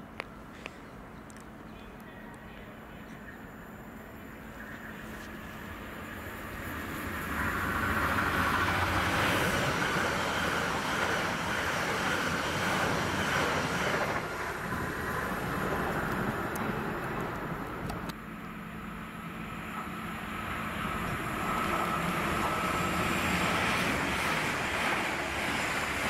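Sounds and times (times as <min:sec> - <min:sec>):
distant train: 0:00.0 - 0:26.0
passenger train passing: 0:00.0 - 0:26.0.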